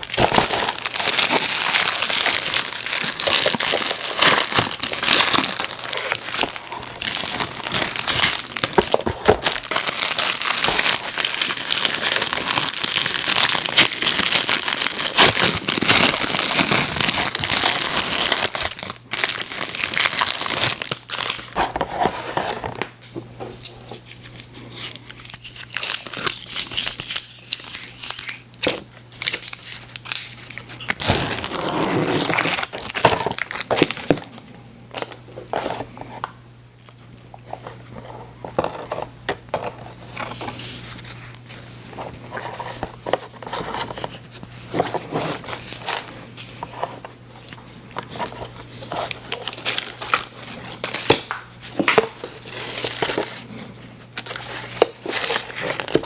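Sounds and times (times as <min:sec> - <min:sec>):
plastic wrappers crinkling and tearing: 0:00.0 - 0:22.9, 0:23.5 - 0:56.0.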